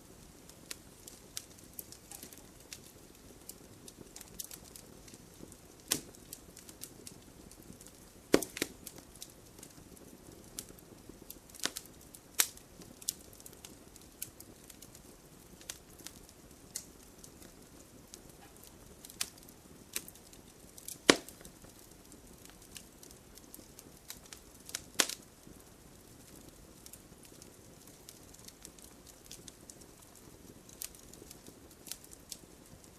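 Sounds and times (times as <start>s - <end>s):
campfire crackling and popping: 0.0s - 32.9s
hiss of flames: 0.0s - 32.9s.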